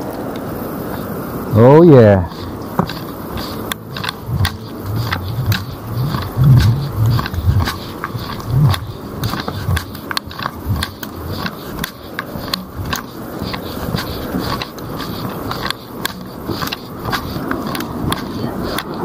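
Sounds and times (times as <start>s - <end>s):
footsteps on paved lane: 2.3s - 19.0s.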